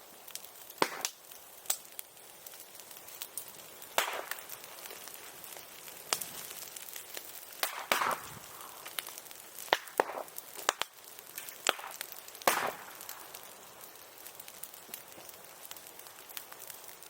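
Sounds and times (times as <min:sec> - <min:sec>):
bonfire cracks and pops: 0:00.0 - 0:17.0
faint fire crackle: 0:00.0 - 0:17.0
short hiss from fire: 0:00.0 - 0:17.0.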